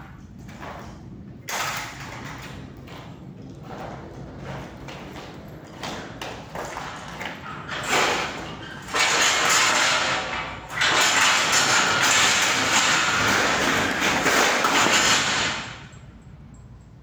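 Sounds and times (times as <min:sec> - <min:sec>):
metal ladder scraping and rattling: 0:00.0 - 0:15.9.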